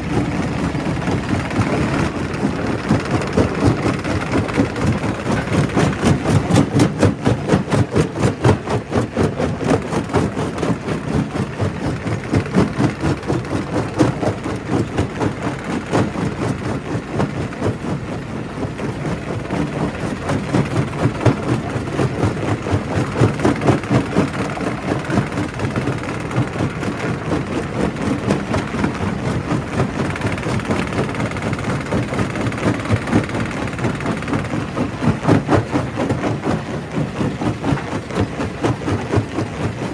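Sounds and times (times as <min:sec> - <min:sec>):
rock crusher machine drone: 0:00.0 - 0:39.9.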